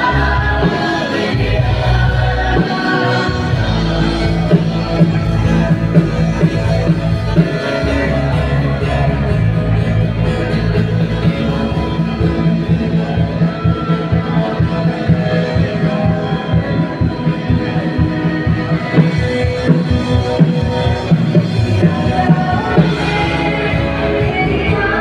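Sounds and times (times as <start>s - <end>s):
pulsing bass: 0.0s - 25.0s
worship music with guitar: 0.0s - 25.0s.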